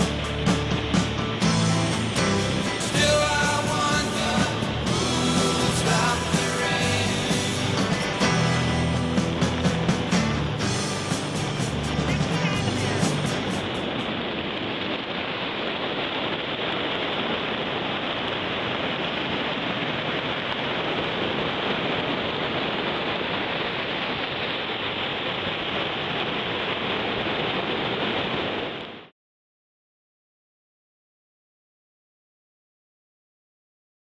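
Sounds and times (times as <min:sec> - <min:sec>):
stormwater rushing into surf: 0:00.0 - 0:29.1.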